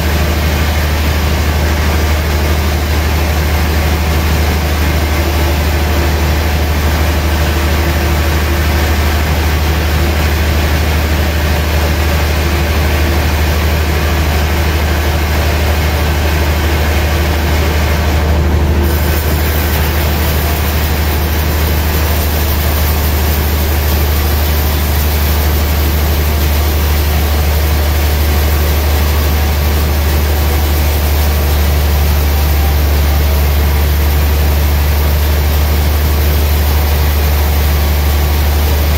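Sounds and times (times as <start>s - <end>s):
band sawmill humming: 0.0s - 38.9s.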